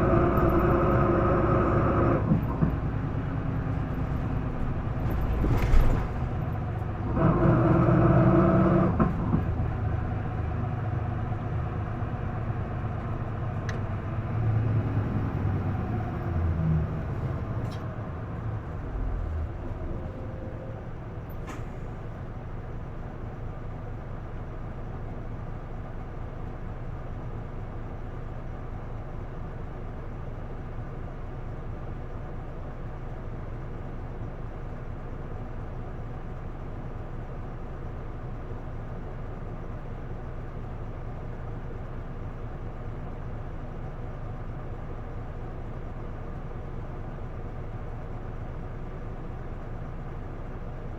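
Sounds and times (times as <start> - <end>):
diesel bus engine running: 0.0 - 50.9.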